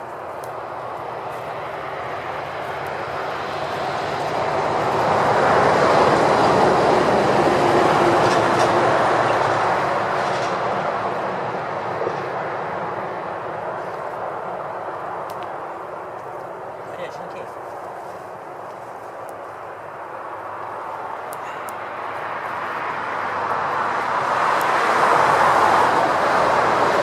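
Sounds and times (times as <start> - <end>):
vehicle passing by: 0.0 - 27.0.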